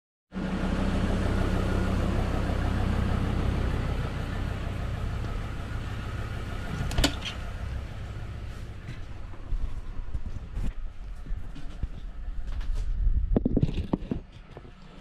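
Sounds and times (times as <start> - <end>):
low motor hum: 0.3 - 15.0.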